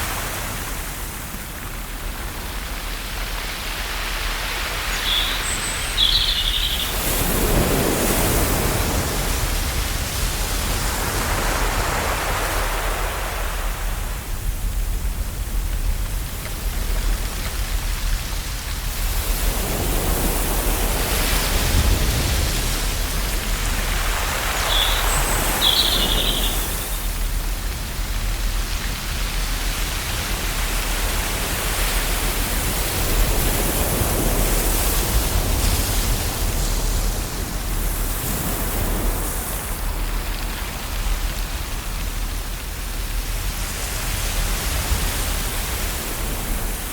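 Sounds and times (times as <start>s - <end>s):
ocean waves washing onto shore: 0.0s - 46.9s.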